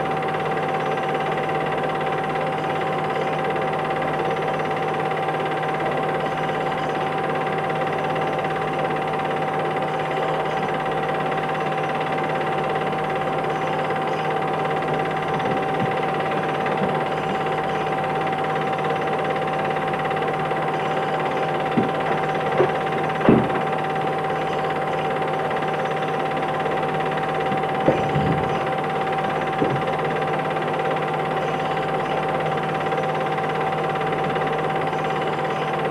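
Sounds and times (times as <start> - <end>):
constant high tone: 0.0 - 35.9
mechanical hum and hiss: 0.0 - 35.9.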